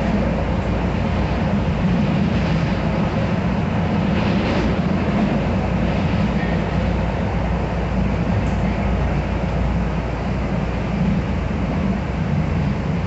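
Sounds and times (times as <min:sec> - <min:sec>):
train running with low hum: 0:00.0 - 0:13.0.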